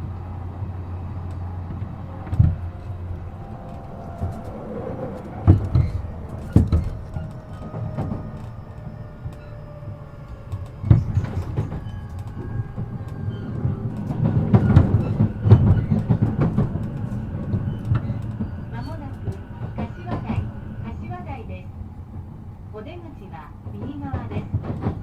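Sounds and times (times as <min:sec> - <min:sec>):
train wheels rumbling: 0:00.0 - 0:25.0
wheels clacking over rail joints: 0:00.7 - 0:20.7, 0:23.6 - 0:25.0.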